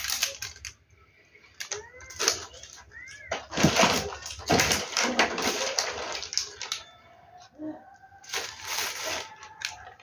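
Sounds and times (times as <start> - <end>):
plastic bags rustling: 0.0 - 7.6, 8.2 - 10.0.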